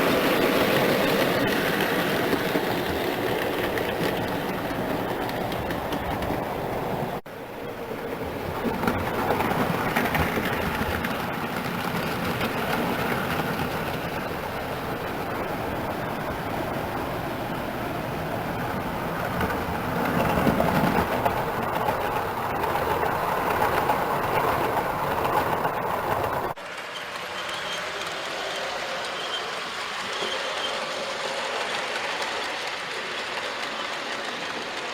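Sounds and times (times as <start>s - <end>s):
model train wheels rumbling on rails: 0.0s - 34.9s.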